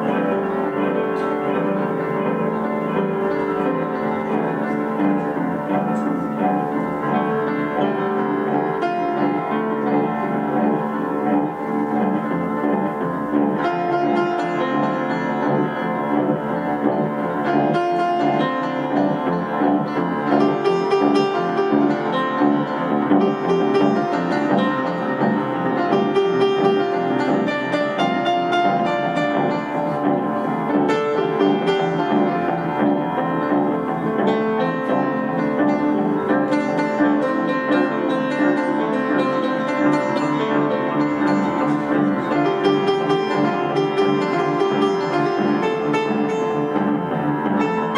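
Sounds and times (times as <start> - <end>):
amplified guitar: 0.0 - 47.9
upright piano: 0.0 - 47.9.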